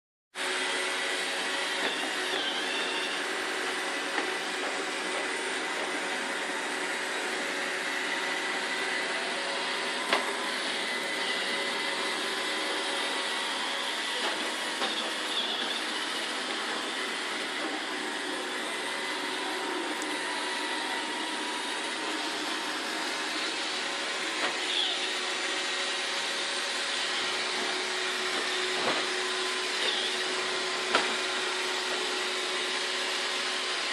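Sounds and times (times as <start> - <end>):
robot vacuum cleaner whirring: 0.4 - 33.9.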